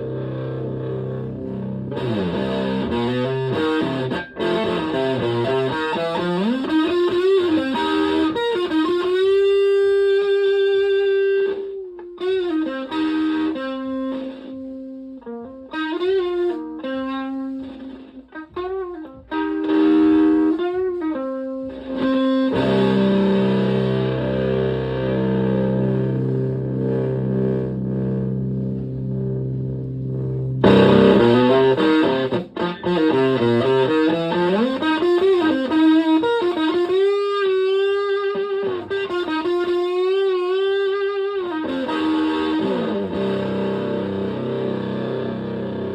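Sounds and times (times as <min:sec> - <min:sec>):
fuzzy electric guitar: 0:00.0 - 0:45.9.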